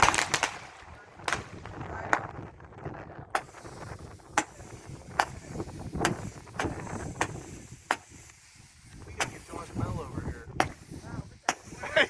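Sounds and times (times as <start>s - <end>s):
fireworks popping: 0.0s - 12.0s.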